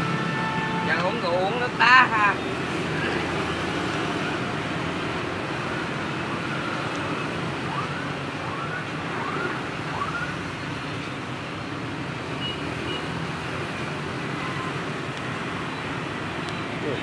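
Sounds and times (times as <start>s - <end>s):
motorbikes passing: 0.0s - 17.0s.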